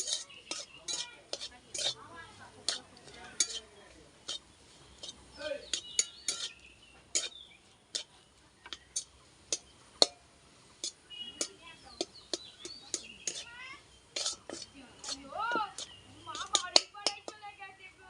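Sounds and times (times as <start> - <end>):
metal utensil clinking against pan: 0.0 - 17.5.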